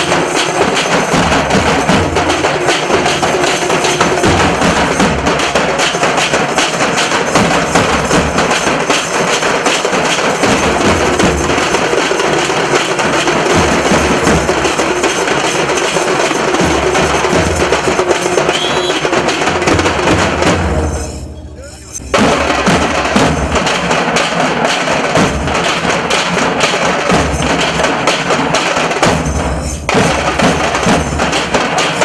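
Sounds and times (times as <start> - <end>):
drum ensemble drumming: 0.0 - 32.0.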